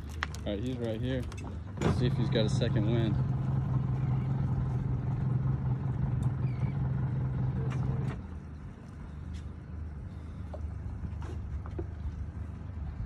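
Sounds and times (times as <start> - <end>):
low motor hum: 0.0 - 13.0
low rumble: 1.3 - 13.0.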